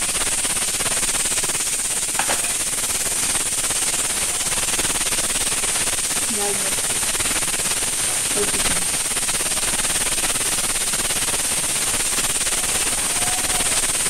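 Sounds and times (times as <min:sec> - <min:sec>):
dal cooking crackling hiss: 0:00.0 - 0:14.0.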